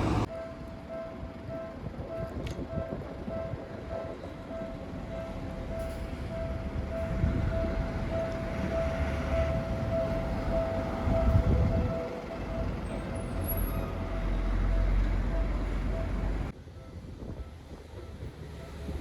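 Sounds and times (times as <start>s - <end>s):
train rumbling past on rails: 0.0s - 19.0s.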